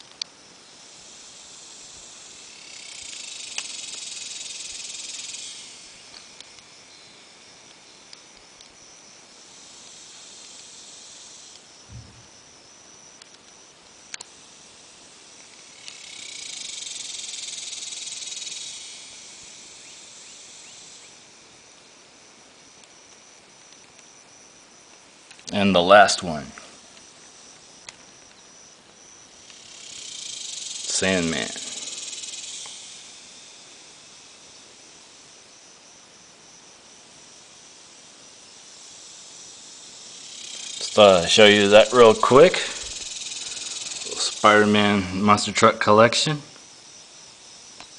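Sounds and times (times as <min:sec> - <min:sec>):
faint steady high whine: 0:00.0 - 0:47.9
high hissing buzz: 0:00.0 - 0:47.9.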